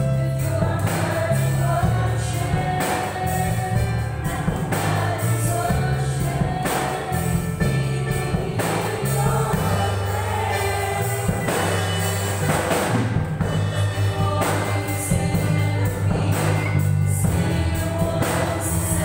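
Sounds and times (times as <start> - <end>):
bass notes: 0.0 - 19.0
drum kit: 0.0 - 19.0
keyboard: 0.0 - 19.0
women singing into microphones: 0.0 - 19.0.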